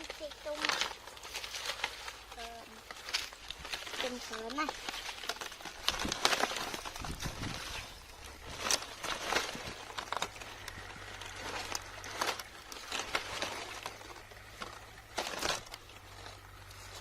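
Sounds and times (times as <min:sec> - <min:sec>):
rustling and crinkling: 0:00.0 - 0:17.0
small clicks and crackles: 0:00.0 - 0:17.0.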